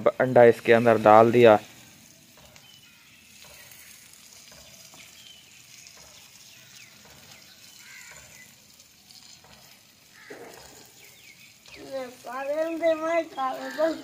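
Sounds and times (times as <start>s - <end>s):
egg and potatoes frying: 0.0s - 14.0s.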